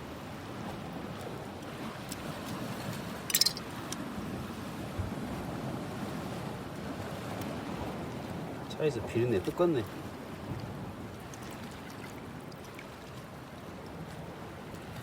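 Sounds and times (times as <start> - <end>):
sea rushing: 0.0 - 15.0
wind: 0.0 - 15.0.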